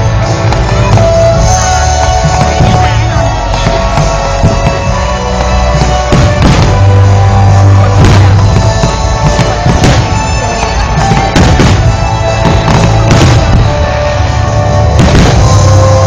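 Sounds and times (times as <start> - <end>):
firework bangs: 0.0 - 16.0
loud music with drums and bass: 0.0 - 16.0.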